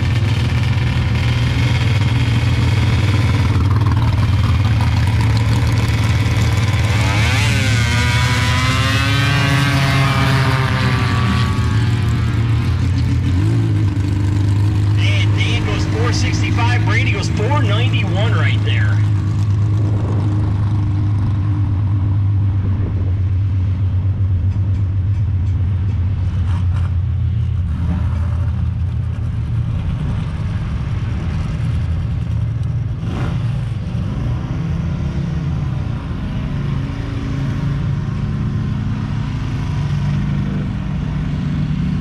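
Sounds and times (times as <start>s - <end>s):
racing engines running: 0.0s - 42.0s.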